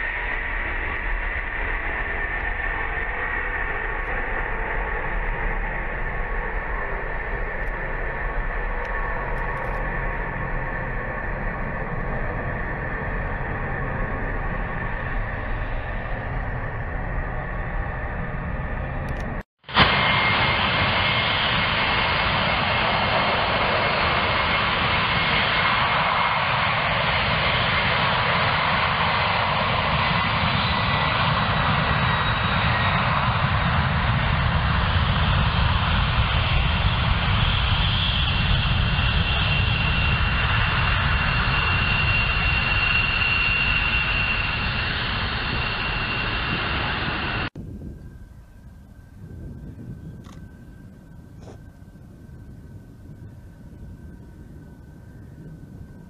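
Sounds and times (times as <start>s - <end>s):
jet engines roaring with whine: 0.0s - 56.0s.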